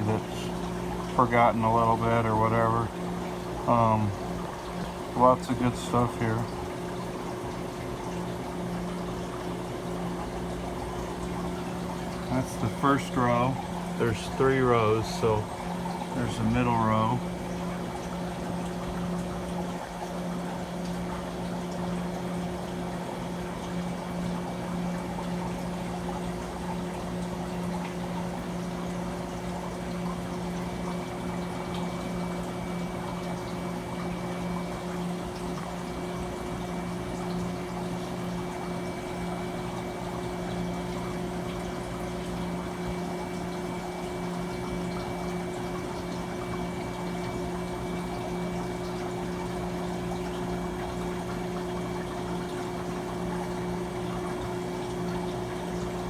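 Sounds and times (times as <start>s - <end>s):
ice machine motor hum: 0.0s - 56.0s
water circulating and splashing: 0.0s - 56.0s.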